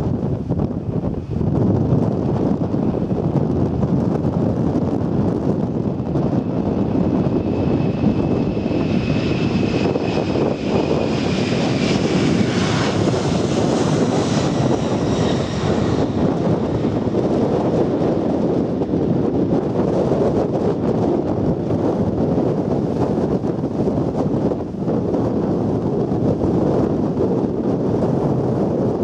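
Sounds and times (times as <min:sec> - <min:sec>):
jet engines rumbling and whining: 0:00.0 - 0:29.0.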